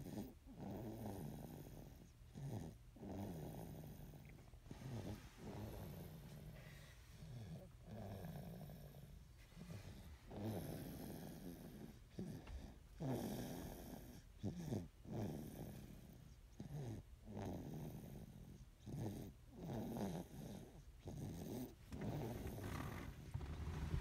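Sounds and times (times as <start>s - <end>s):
rasping snores: 0.0s - 24.0s.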